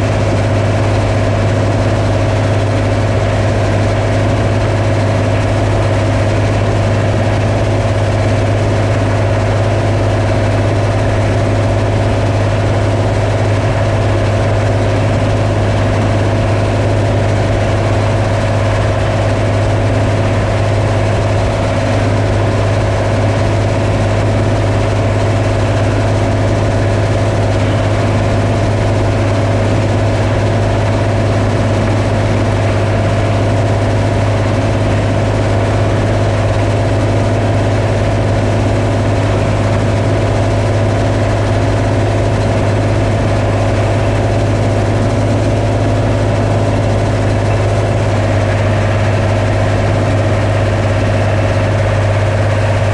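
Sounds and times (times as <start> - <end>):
combine harvester engine drone: 0.0 - 52.9.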